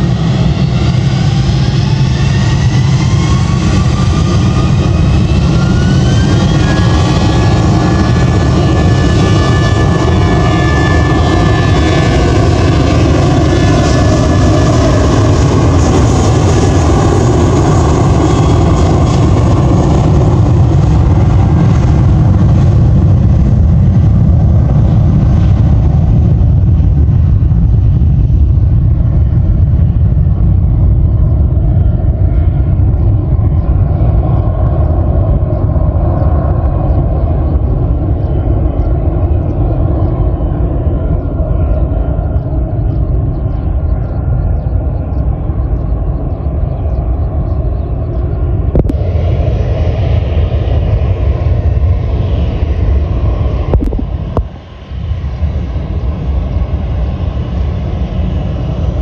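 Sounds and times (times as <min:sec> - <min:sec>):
jet engines roaring on takeoff: 0:00.0 - 0:59.0.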